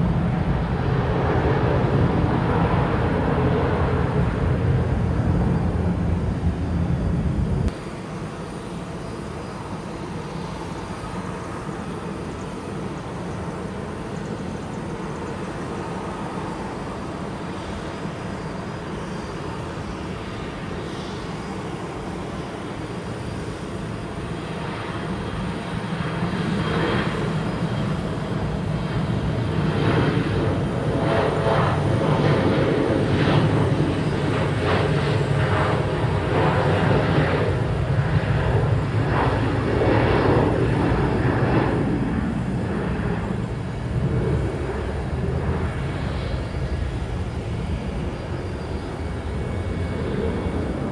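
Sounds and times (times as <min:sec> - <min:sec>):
approaching aircraft: 0:00.0 - 0:50.9
jet engines rushing: 0:00.0 - 0:50.9.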